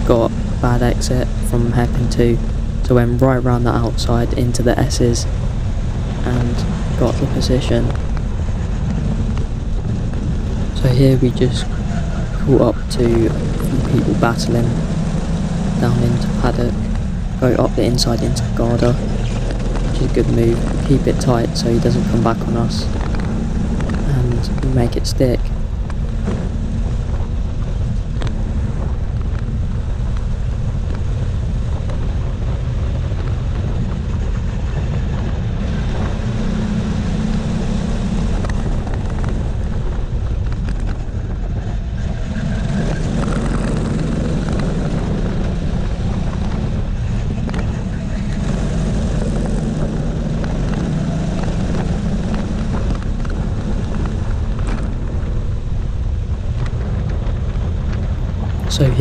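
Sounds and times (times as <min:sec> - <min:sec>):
kart engine revving: 0:00.0 - 0:30.6, 0:31.4 - 0:59.0.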